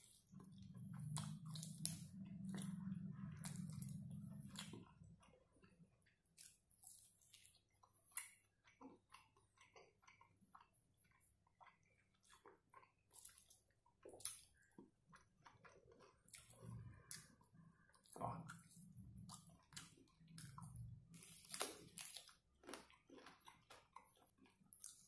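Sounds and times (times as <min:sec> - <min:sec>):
close-up chewing with mouth smacks: 0:00.0 - 0:25.0.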